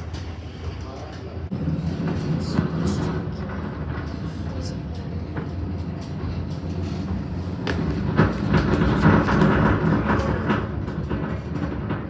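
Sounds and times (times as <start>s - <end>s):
rail clacks and knocks: 0.0s - 12.0s
train wheels rumbling on rails: 0.0s - 12.0s.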